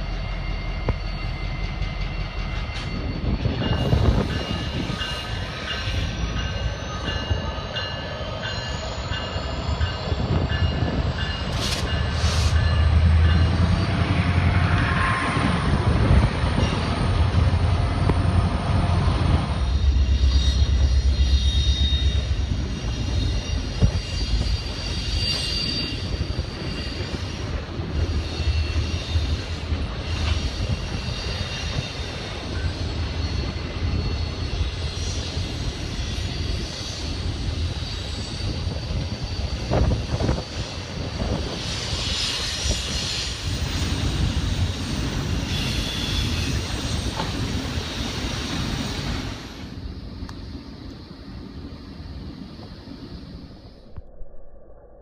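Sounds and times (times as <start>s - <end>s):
freight train rumbling: 0.0s - 53.8s
faint high-pitched squeals: 0.0s - 55.0s.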